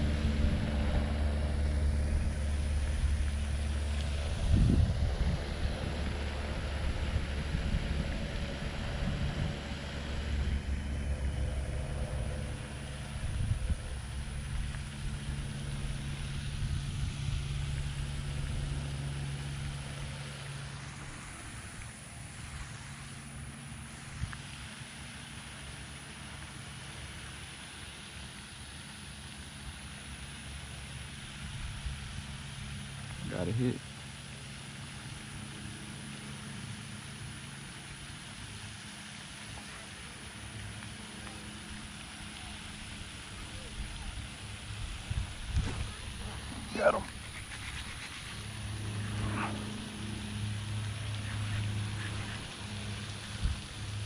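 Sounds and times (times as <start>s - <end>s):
engine humming: 0.0s - 54.0s
outdoor hiss: 0.0s - 54.0s.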